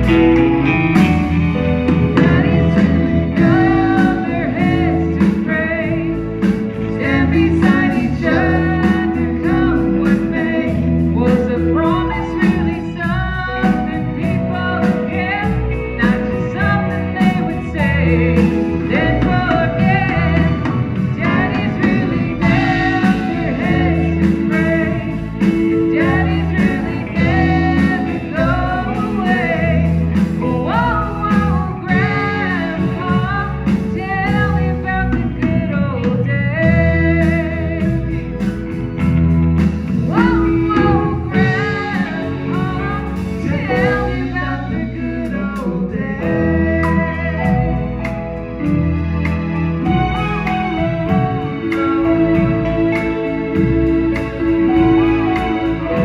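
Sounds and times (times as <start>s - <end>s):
live country band playing: 0.0s - 56.0s
woman singing: 1.0s - 38.5s, 40.0s - 48.2s, 49.9s - 56.0s.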